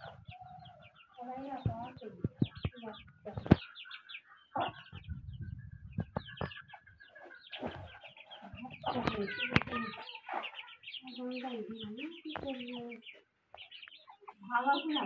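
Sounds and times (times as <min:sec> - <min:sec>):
beaks pecking dirt floor: 0:00.0 - 0:15.0
chicks peeping: 0:00.0 - 0:15.0
hen clucking: 0:00.0 - 0:15.0.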